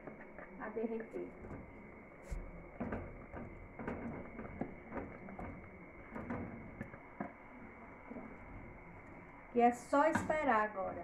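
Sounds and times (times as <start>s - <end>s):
wooden spoon stirring in pot: 0.0s - 11.0s.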